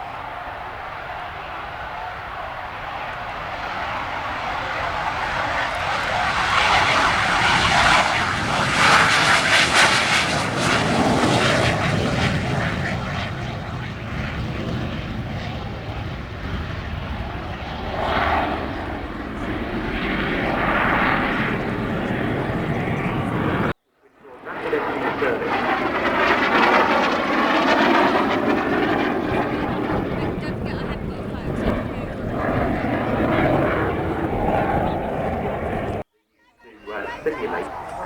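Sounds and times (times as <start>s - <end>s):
plane flying past: 0.0s - 36.0s, 36.7s - 38.0s.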